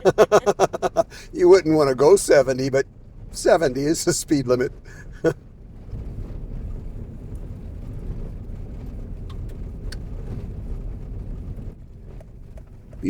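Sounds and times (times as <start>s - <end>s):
car driving on dirt road: 0.0s - 13.0s.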